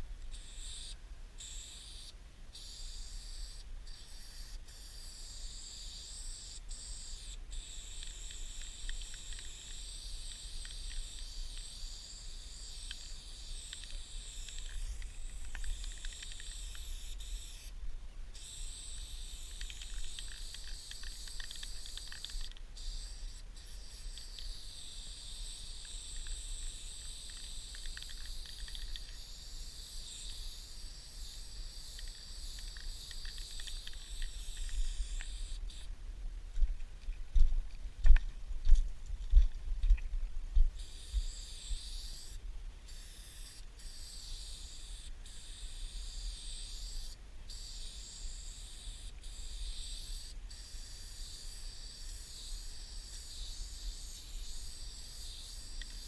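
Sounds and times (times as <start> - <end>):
spray paint can hissing: 0.3 - 17.7, 18.4 - 35.9, 40.8 - 56.0.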